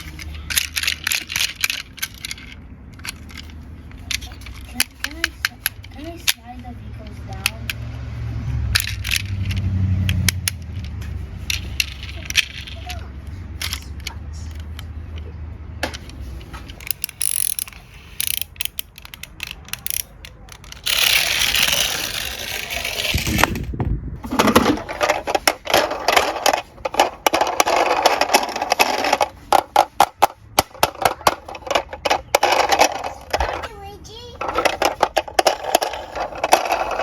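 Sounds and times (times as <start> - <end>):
toy cars clicking and clattering: 0.0 - 37.0
toy cars rolling: 0.0 - 37.0.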